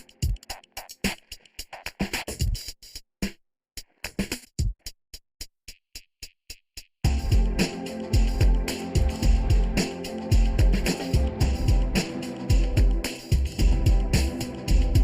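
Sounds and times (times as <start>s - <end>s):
electronic music with drum machine: 0.0s - 3.0s, 5.7s - 15.0s.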